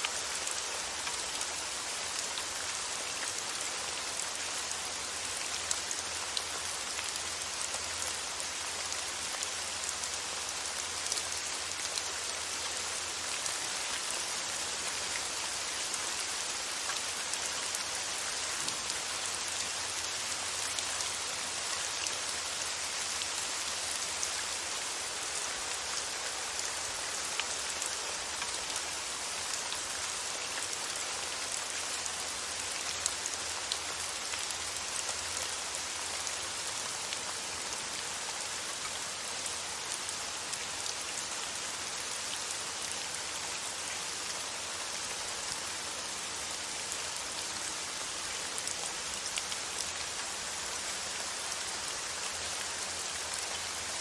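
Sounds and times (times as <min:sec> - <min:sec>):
rain patter: 0:00.0 - 0:54.0.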